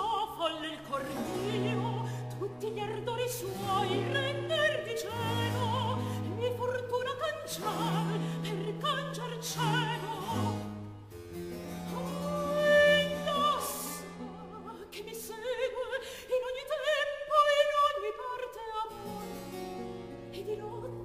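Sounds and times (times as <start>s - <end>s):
soprano singing with vibrato: 0.0s - 11.0s, 11.7s - 19.6s, 20.3s - 21.0s.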